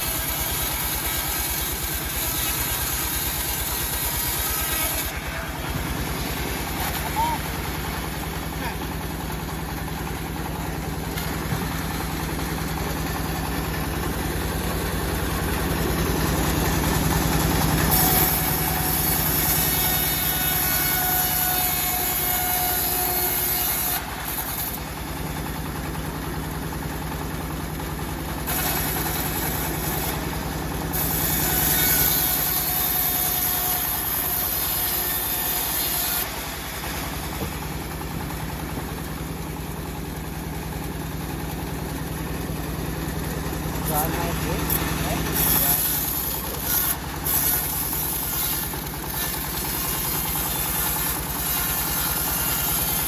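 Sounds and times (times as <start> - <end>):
saw blade cutting log: 0.0 - 25.6, 28.4 - 39.2, 43.7 - 53.0
sawmill engine running: 0.0 - 53.0.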